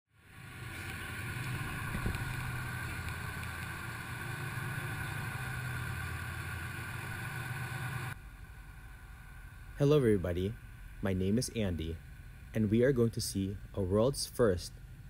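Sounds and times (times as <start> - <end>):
boat engine running: 0.2 - 14.1
hiss of wind and water: 0.2 - 15.0.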